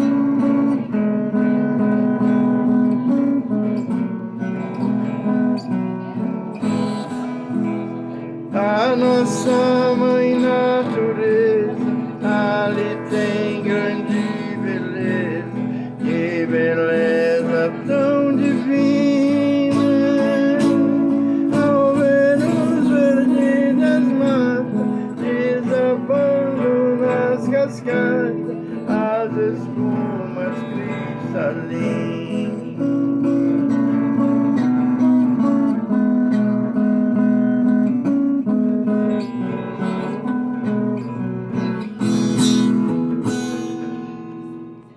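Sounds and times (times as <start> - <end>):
song with acoustic guitar: 0.0 - 44.9.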